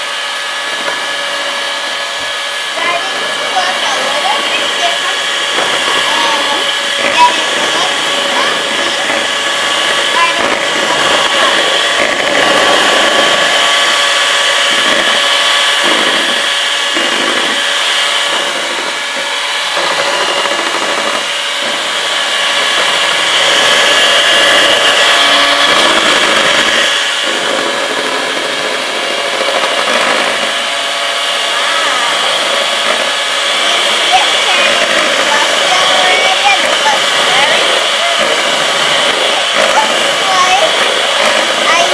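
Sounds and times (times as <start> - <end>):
electric hand mixer whipping: 0.0 - 41.9.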